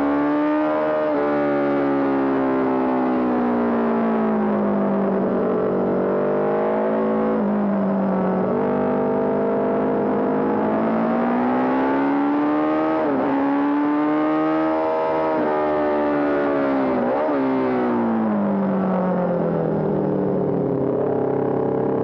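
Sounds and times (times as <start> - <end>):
racing motorcycle engine revving: 0.0 - 19.5.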